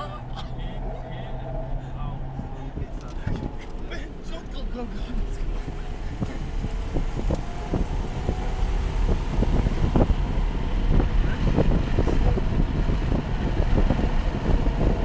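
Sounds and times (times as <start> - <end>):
engine and road rumble: 0.0 - 15.0
wind: 0.0 - 15.0.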